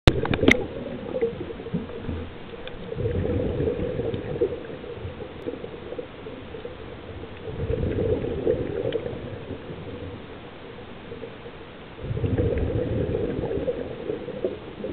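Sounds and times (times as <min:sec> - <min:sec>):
underwater exhaled bubbles gurgling: 0:00.1 - 0:14.9.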